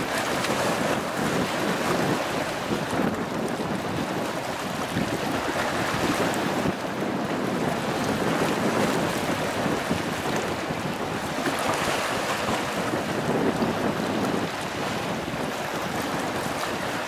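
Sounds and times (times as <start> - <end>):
small waves washing on beach: 0.0 - 17.0
wind noise on microphone: 0.0 - 17.0.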